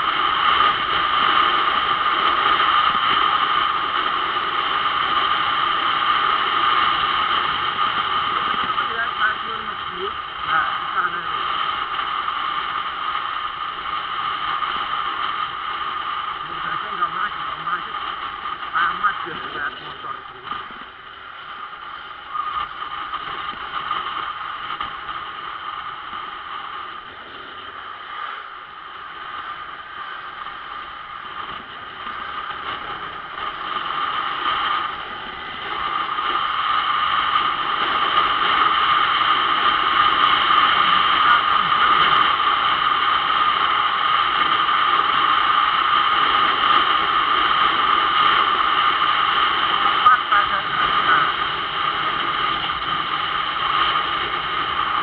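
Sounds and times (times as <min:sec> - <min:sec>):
wind rushing over camera: 0:00.0 - 0:55.0.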